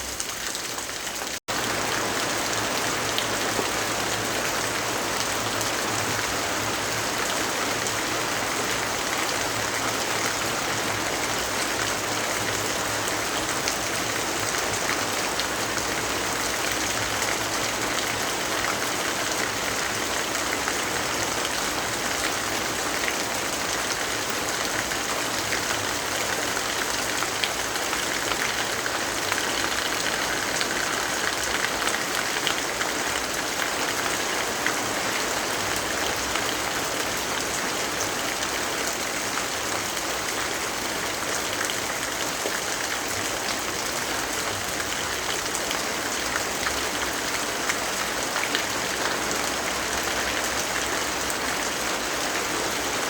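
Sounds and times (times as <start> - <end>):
patter of raindrops: 0.0 - 53.0
steady rain hiss: 1.5 - 53.0.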